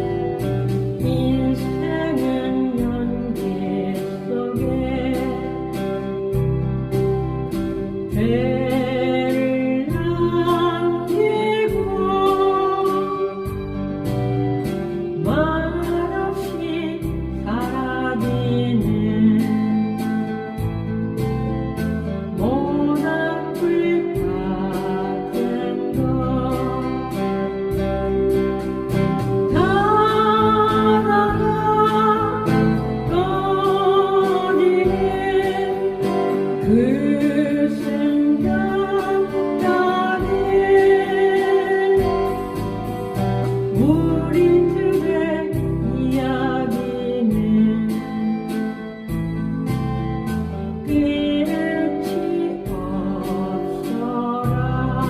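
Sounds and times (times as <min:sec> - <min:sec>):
person singing folk song: 0:00.0 - 0:55.0
strummed acoustic guitar: 0:00.0 - 0:55.0.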